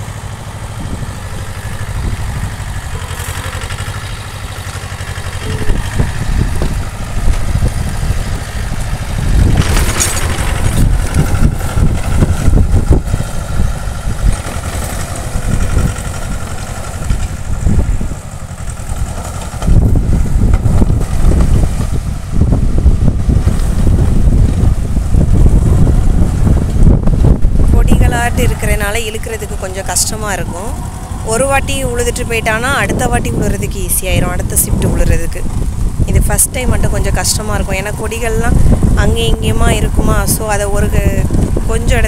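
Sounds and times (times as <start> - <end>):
rotary tiller in soil: 0.0 - 42.0
tractor engine running: 0.0 - 42.0
wind buffeting microphone: 0.0 - 42.0.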